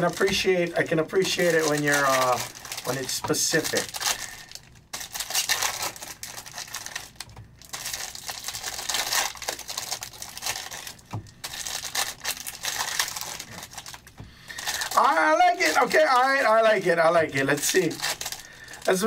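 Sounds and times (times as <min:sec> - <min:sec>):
trading cards clicking and rustling: 0:00.0 - 0:19.0.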